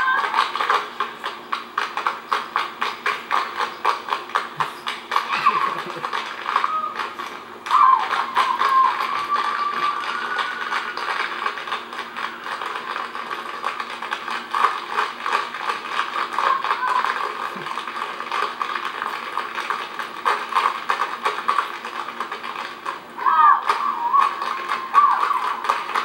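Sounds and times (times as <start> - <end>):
tap shoes striking stage floor: 0.0 - 26.0.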